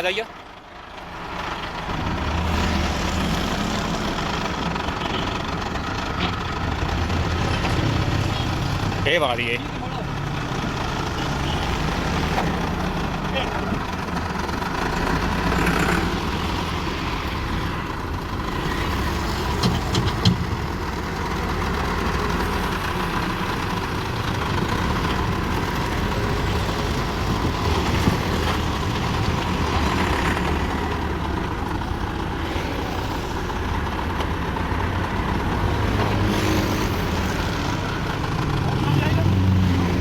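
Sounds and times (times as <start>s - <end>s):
tractor engine rumble: 0.0s - 40.0s.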